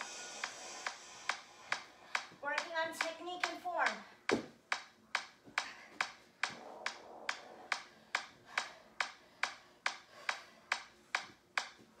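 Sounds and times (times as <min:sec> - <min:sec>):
workout music with clap beat: 0:00.0 - 0:12.0.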